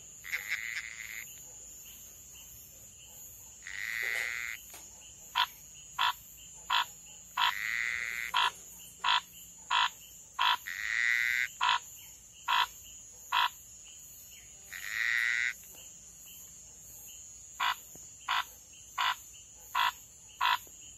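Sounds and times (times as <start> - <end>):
frogs calling short sharp notes: 0.0 - 20.9.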